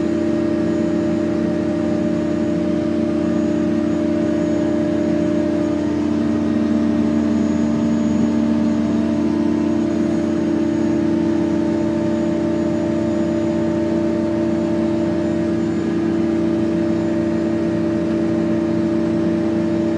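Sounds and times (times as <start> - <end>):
crane engine droning: 0.0 - 19.9.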